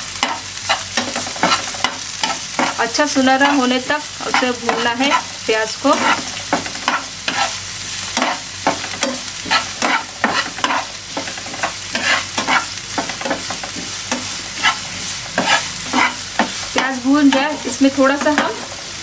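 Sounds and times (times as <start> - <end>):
onion sizzling in a pan: 0.0 - 19.0
spatula scraping a pan: 0.2 - 18.8.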